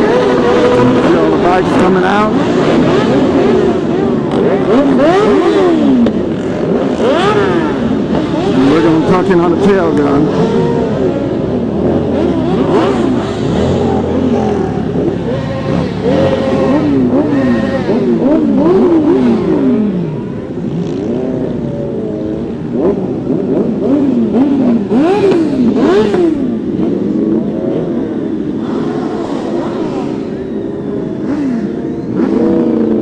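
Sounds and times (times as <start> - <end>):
motorcycles accelerating: 0.0 - 33.0.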